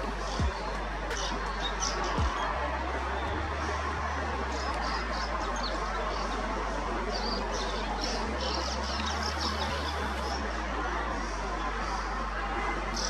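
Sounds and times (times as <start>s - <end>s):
birds twittering: 0.0s - 10.6s
steady background noise: 0.0s - 13.0s.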